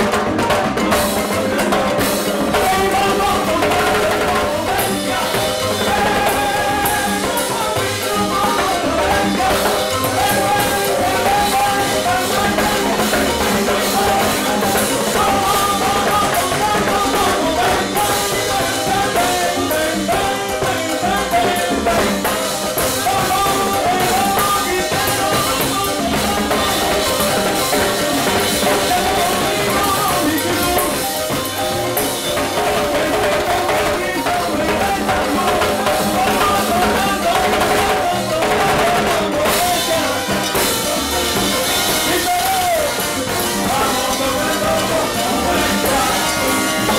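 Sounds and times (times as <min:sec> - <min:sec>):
congas: 0:00.0 - 0:46.9
drum kit: 0:00.0 - 0:46.9
lead singer singing: 0:00.0 - 0:46.9
trombones: 0:00.0 - 0:46.9
upright bass: 0:00.0 - 0:46.9.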